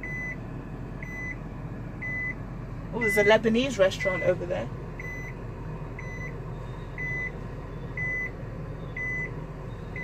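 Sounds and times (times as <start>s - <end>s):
vehicle warning beeps: 0.0s - 0.4s, 1.0s - 1.4s, 2.0s - 2.4s, 3.0s - 10.0s
car engine idling: 0.0s - 10.0s.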